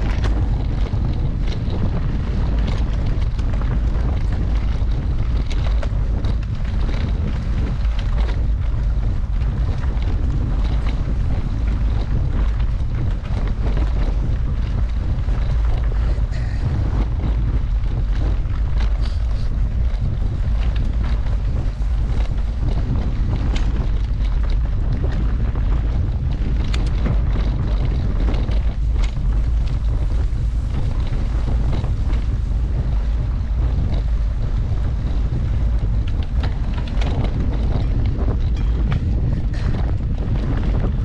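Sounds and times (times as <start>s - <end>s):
bike clicks and rattles: 0.0s - 41.0s
wind buffeting microphone: 0.0s - 41.0s.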